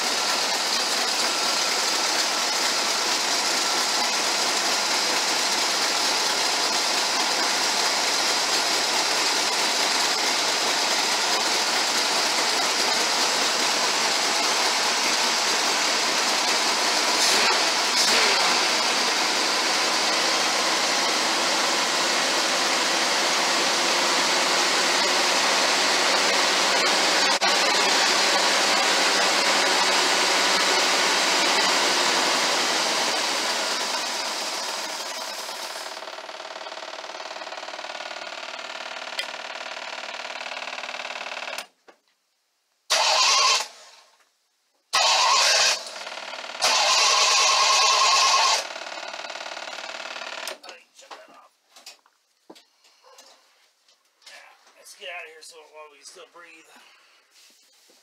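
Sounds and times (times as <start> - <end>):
car engine idling: 0.0 - 41.0, 45.0 - 51.3.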